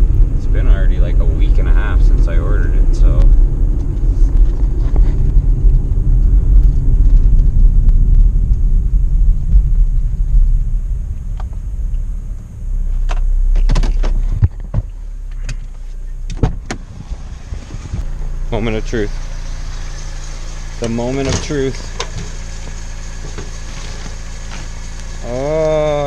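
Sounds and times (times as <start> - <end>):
vehicle driving low rumble: 0.0 - 26.0.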